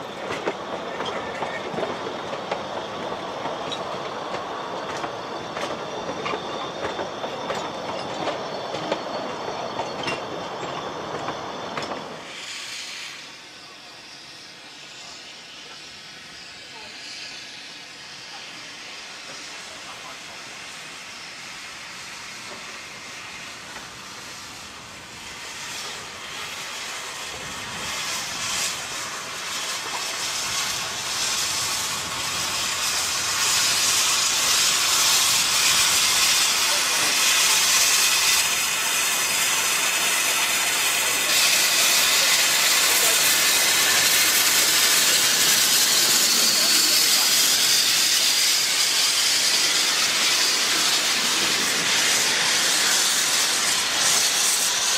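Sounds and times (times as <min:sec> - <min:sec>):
continuous steam hiss: 0:00.0 - 0:54.9
steam locomotives moving slowly: 0:00.0 - 0:54.9.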